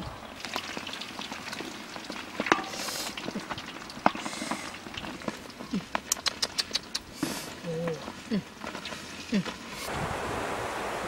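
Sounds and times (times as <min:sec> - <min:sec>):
fish sizzling in a wok: 0:00.0 - 0:09.9.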